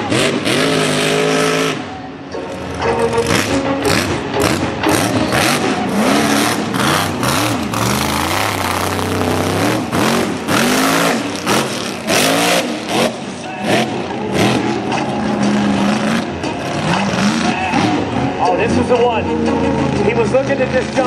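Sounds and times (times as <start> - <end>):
truck engine revving hard: 0.0 - 18.6
tyres churning dirt: 0.0 - 21.0.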